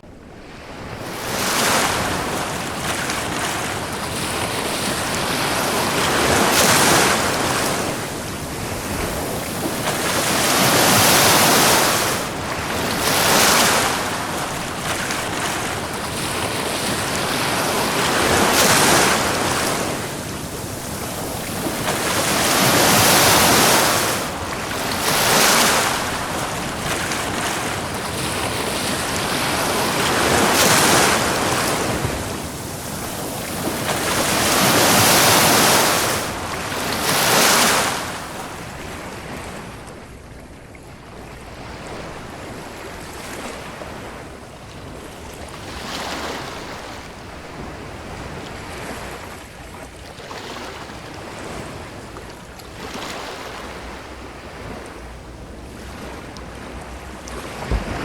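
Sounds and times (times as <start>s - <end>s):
ocean waves breaking on beach: 0.1s - 58.0s.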